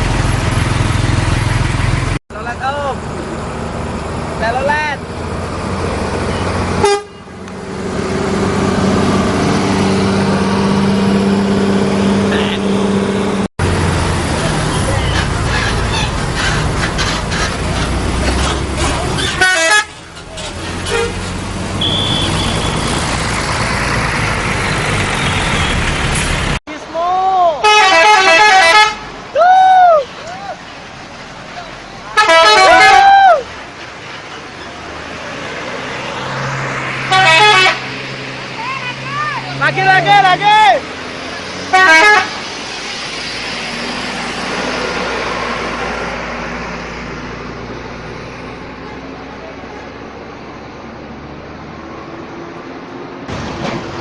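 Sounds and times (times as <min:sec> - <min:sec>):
bus engine humming: 0:00.0 - 0:54.0
rushing road noise: 0:00.0 - 0:54.0.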